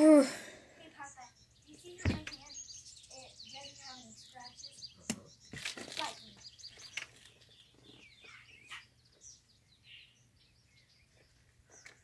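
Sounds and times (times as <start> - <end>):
faint bird chirps: 0.8 - 12.0.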